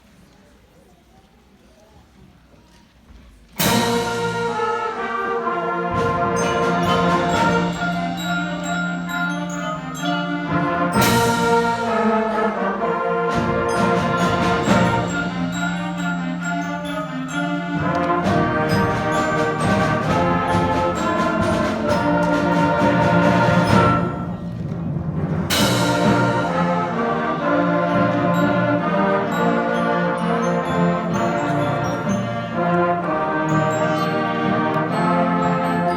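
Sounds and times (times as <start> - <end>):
concert band playing chords: 3.6 - 24.7, 25.5 - 35.9.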